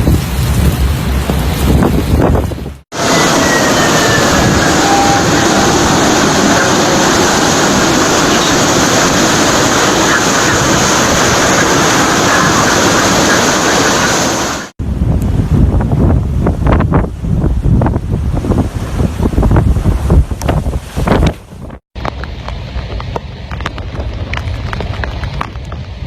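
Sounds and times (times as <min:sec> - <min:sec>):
heavy rain: 0:00.0 - 0:26.0
strong wind: 0:00.0 - 0:26.0.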